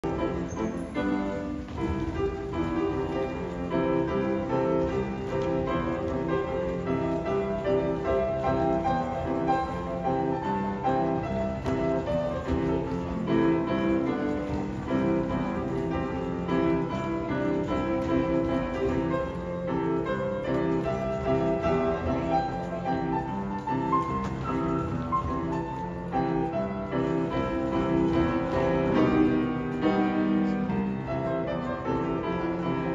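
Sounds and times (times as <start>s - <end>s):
piano music: 0.0s - 32.9s.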